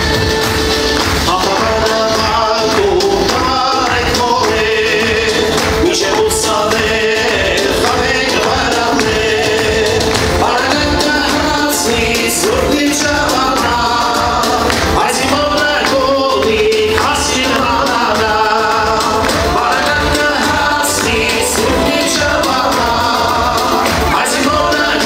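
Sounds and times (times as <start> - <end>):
amplified backing music: 0.0 - 25.0
man singing into microphone: 1.0 - 25.0.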